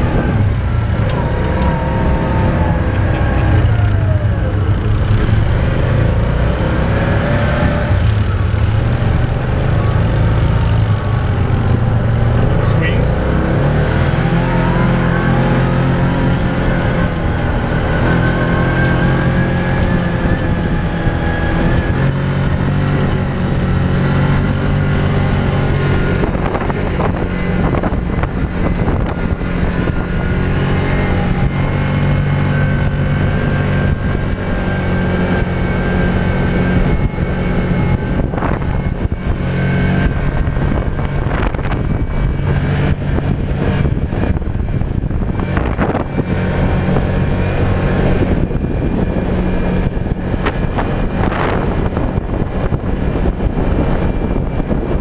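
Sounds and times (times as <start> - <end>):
dune buggy engine running hard: 0.0 - 55.0.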